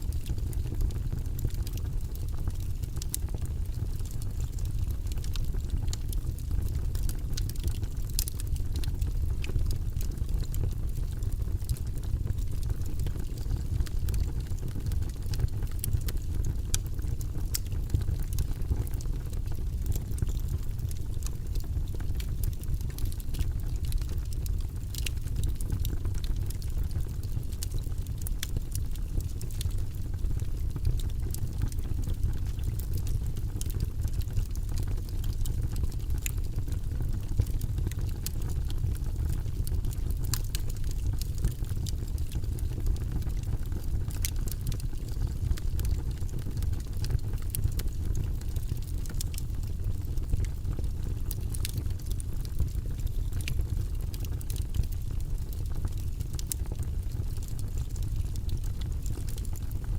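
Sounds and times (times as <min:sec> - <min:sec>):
burning logs crackling and popping: 0:00.1 - 0:59.9
fire flames rumbling: 0:00.1 - 0:59.9.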